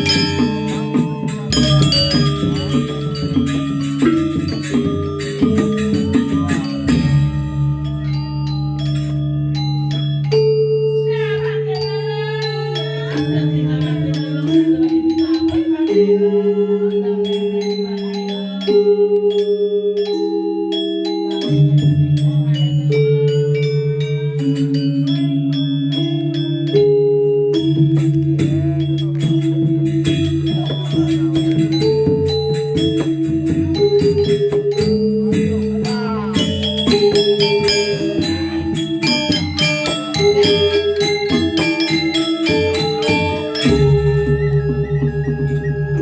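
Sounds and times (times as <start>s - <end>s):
gamelan metallophones playing: 0.0s - 46.0s.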